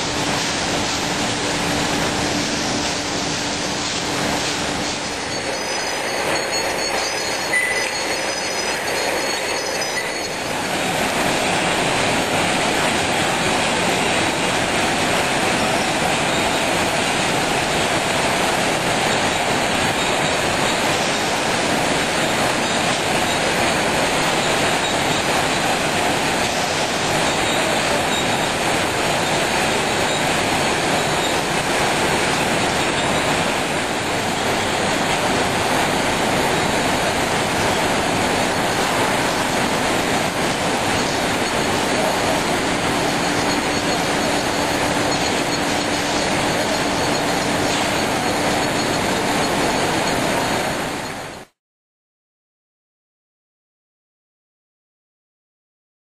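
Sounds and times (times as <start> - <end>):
factory machinery rattle and hiss: 0.0 - 51.3.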